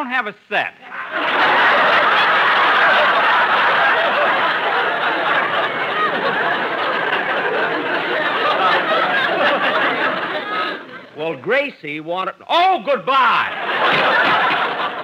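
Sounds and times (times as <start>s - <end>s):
studio audience laughing: 0.9s - 11.2s, 13.2s - 15.0s.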